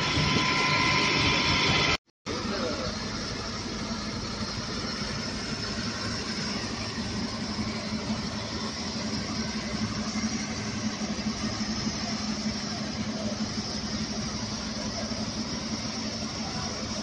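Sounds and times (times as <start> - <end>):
high-pressure water jet hissing: 0.0 - 17.0
low hum: 0.0 - 17.0.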